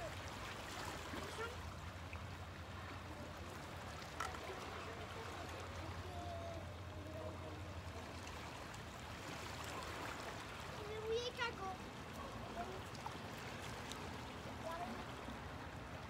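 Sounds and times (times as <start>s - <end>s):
sea water lapping among rocks: 0.0s - 16.0s.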